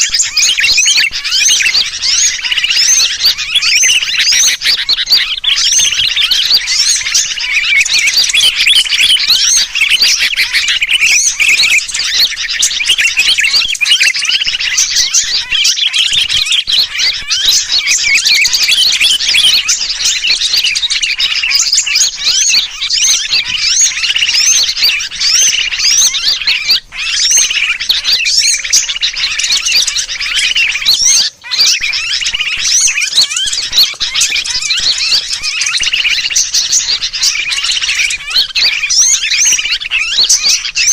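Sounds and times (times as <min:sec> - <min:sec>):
bulbul distress calls: 0:00.0 - 0:40.9
small birds chirping: 0:00.0 - 0:40.9.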